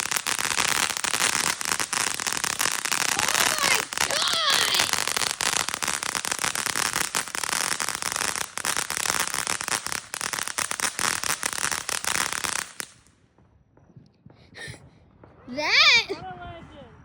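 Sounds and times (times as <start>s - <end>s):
fireworks crackling pops: 0.0s - 16.2s.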